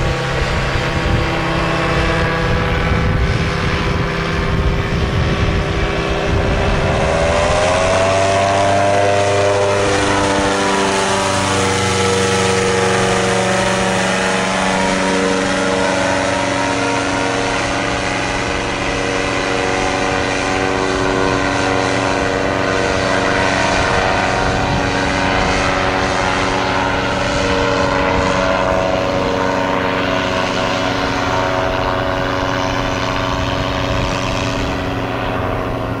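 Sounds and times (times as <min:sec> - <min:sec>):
paramotor engines droning: 0:00.0 - 0:36.0.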